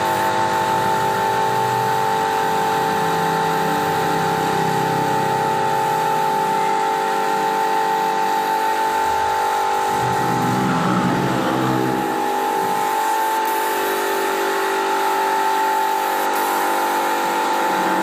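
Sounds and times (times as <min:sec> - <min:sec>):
air compressor humming: 0:00.0 - 0:18.0
spray gun hissing: 0:00.0 - 0:18.0.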